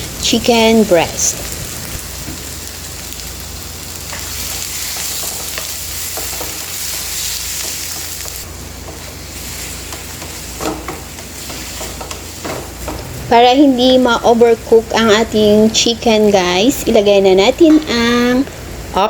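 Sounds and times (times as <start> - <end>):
chicken sizzling in hot oil: 0.0 - 16.8.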